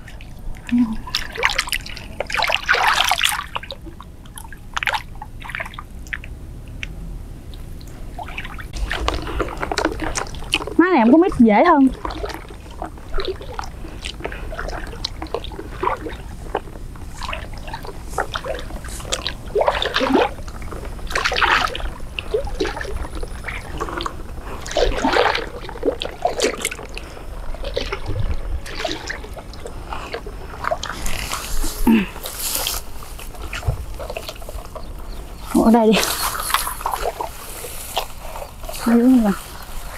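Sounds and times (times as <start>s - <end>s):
water splashing around legs: 0.0s - 6.3s, 8.2s - 39.9s.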